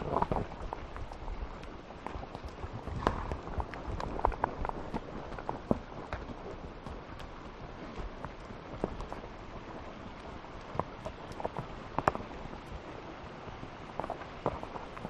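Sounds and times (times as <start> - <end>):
horse hooves clopping: 0.0 - 15.0.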